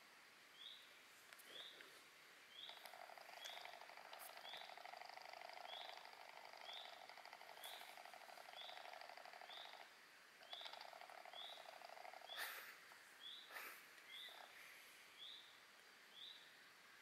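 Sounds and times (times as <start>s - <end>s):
rustles: 0.8s - 15.8s.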